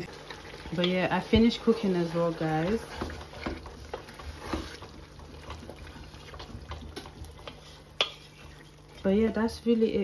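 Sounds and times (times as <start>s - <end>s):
stew bubbling: 0.0s - 9.1s.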